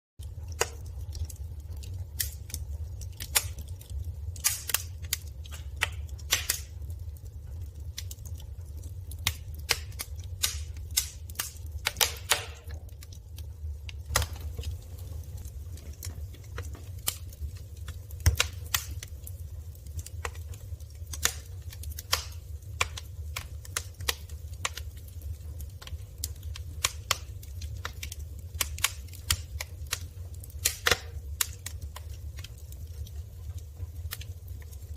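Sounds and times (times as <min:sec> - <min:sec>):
firewood crackling and popping: 0:00.2 - 0:34.9
low rumble of fire: 0:00.2 - 0:34.9.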